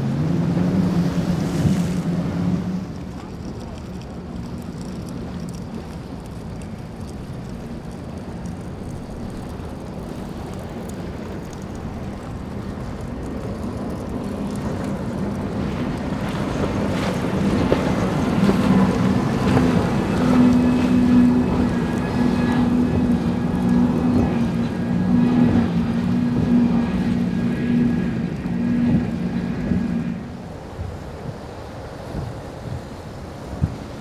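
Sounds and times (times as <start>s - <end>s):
hiss of spray and wake: 0.0s - 4.4s, 6.8s - 34.0s
powerboat engines at high speed: 0.0s - 34.0s.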